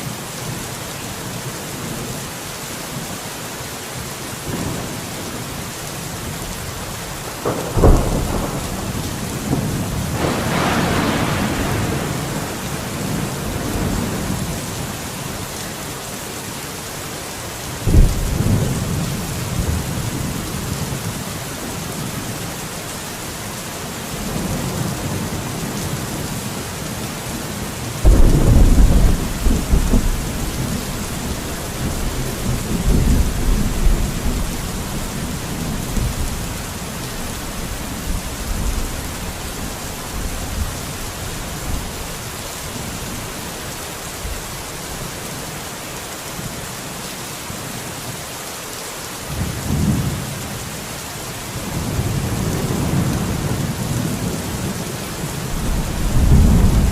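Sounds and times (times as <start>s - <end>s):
steady rain hissing: 0.0s - 56.9s.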